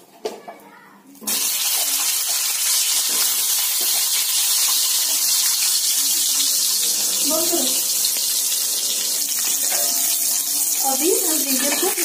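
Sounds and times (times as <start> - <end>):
vegetables sizzling in hot oil: 1.2 - 12.0.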